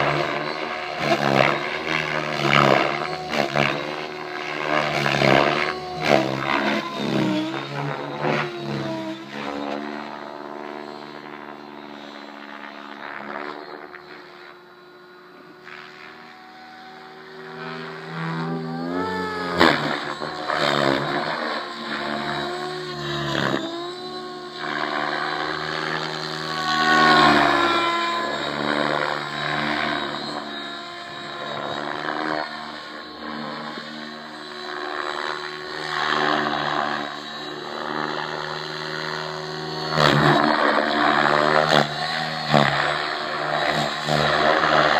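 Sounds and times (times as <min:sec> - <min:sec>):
rc helicopter whirring: 0:00.0 - 0:44.9.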